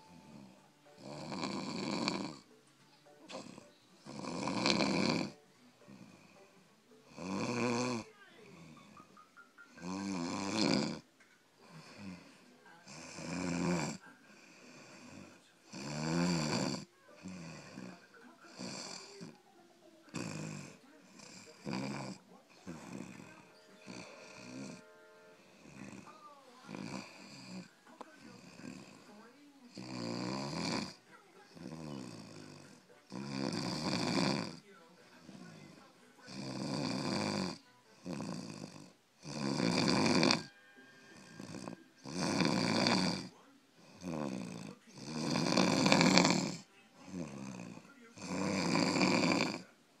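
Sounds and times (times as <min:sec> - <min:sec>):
person snoring: 0:00.0 - 0:02.6, 0:03.3 - 0:09.1, 0:09.7 - 0:19.4, 0:20.1 - 0:34.6, 0:35.2 - 0:49.7
quiet breaths: 0:00.0 - 0:50.0.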